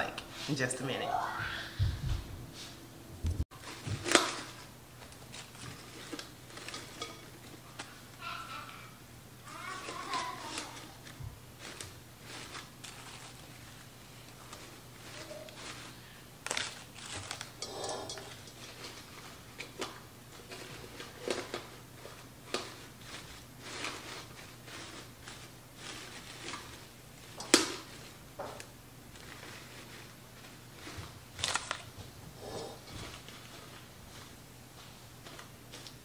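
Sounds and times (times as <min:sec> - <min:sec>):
artificial flowers rustling and clicking: 0:03.5 - 0:08.8, 0:09.5 - 0:36.0.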